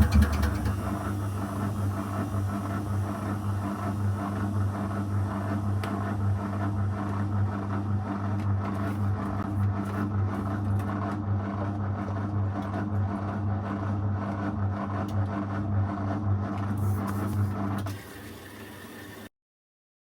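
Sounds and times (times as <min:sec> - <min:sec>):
washing machine humming: 0:00.0 - 0:19.3.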